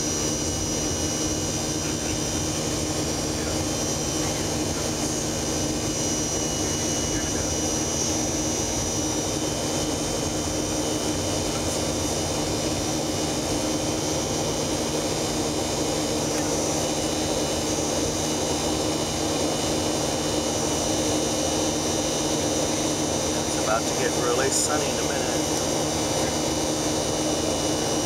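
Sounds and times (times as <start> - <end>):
airplane cabin jet engine roar: 0.0 - 28.0.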